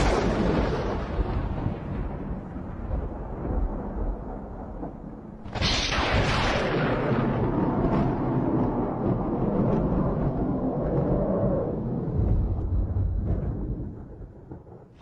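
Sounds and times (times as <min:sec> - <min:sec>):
low rumble: 0:00.0 - 0:14.9.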